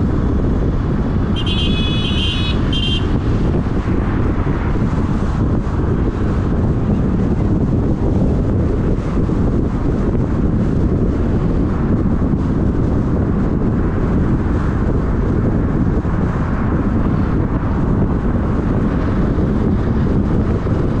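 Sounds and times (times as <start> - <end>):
road noise: 0.0 - 21.0
wind buffeting microphone: 0.0 - 21.0.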